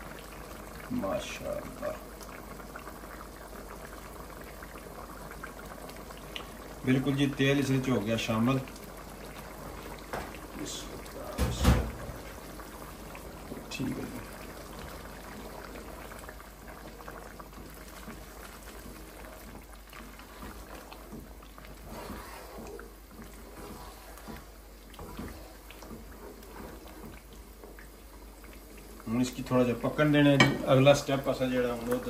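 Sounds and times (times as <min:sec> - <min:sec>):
pot bubbling: 0:00.0 - 0:32.0.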